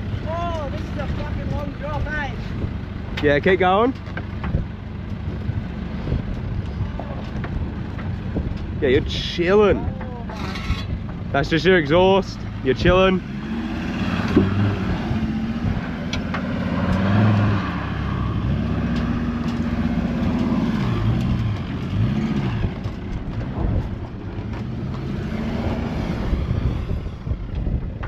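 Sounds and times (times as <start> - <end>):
engine revving under load: 0.9 - 28.0.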